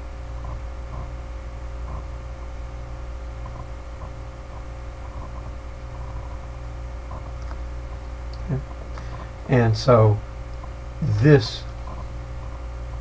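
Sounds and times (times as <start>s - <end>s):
background hiss: 0.0s - 13.0s
low electrical hum: 0.0s - 13.0s.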